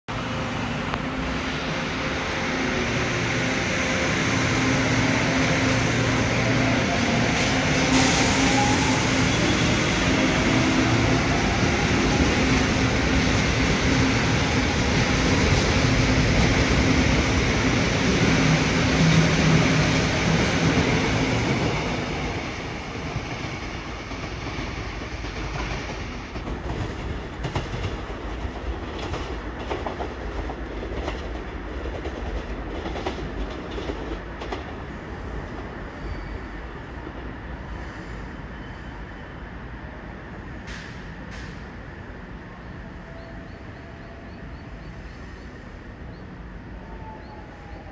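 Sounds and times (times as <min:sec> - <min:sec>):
train wheels on rails: 0:00.2 - 0:39.4, 0:40.2 - 0:46.6.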